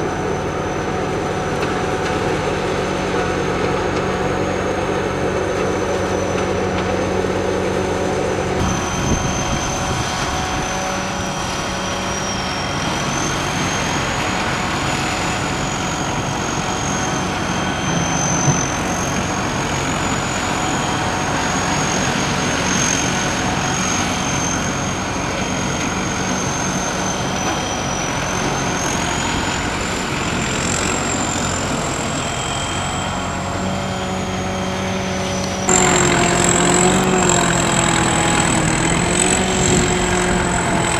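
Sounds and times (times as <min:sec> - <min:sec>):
combine harvester running: 0:00.0 - 0:40.9
high machinery whine: 0:00.0 - 0:40.9.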